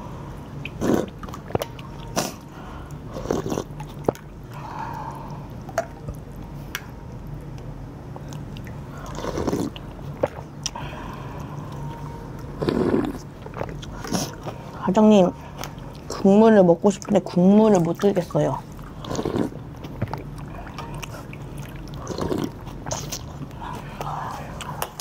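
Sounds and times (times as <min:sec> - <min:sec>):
liquid sloshing and dripping: 0:00.5 - 0:03.0, 0:03.6 - 0:12.4, 0:13.4 - 0:19.0, 0:19.6 - 0:25.0.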